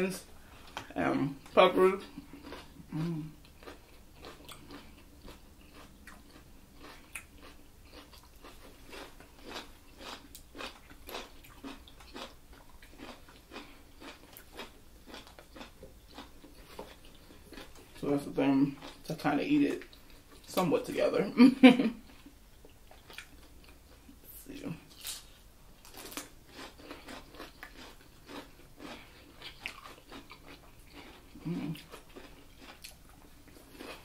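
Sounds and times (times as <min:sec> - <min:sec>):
chewing food: 0:00.4 - 0:18.1, 0:18.7 - 0:20.6, 0:22.1 - 0:24.2, 0:24.9 - 0:34.0.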